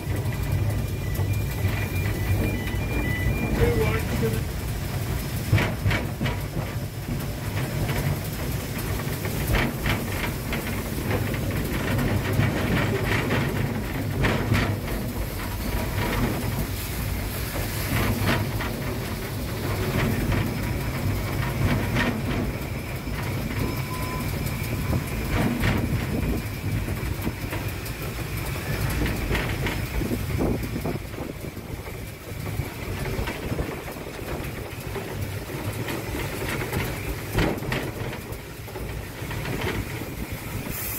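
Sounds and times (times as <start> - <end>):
steam locomotive rumble: 0.0 - 40.9
wheels clicking on track: 0.0 - 40.9.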